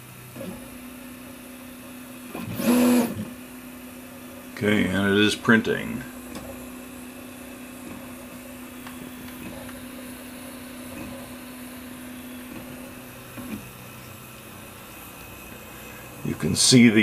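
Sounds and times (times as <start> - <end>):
printer stepper motors humming: 0.0 - 17.0.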